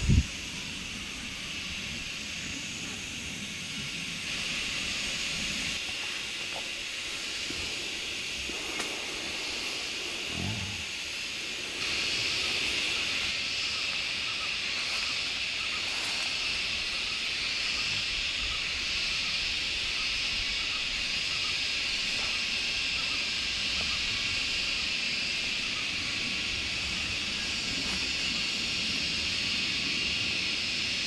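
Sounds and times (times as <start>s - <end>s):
insects buzzing chorus: 0.0s - 31.0s.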